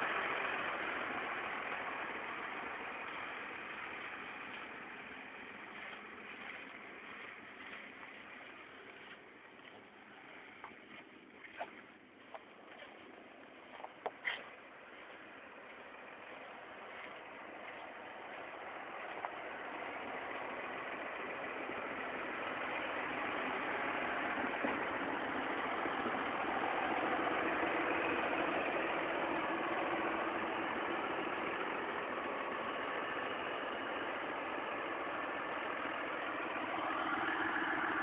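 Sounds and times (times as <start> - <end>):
tractor diesel engine idling: 0.0 - 38.0.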